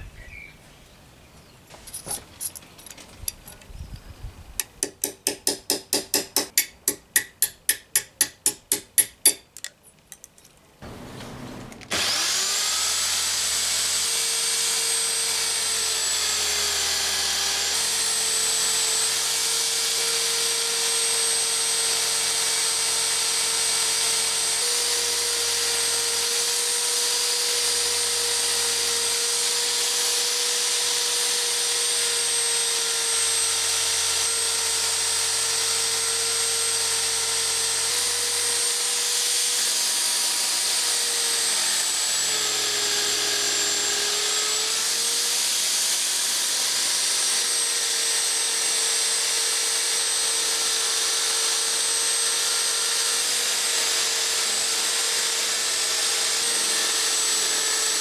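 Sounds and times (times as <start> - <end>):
power tool motor whine: 10.9 - 58.0.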